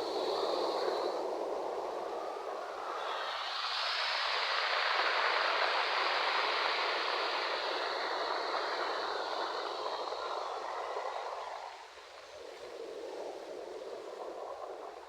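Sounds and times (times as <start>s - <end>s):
ocean waves washing onto shore: 0.0s - 15.0s.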